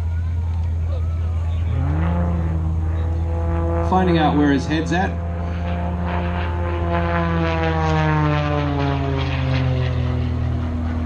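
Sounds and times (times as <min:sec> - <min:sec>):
propeller plane engine falling pitch: 0:00.0 - 0:11.0
steady low hum: 0:00.0 - 0:11.0.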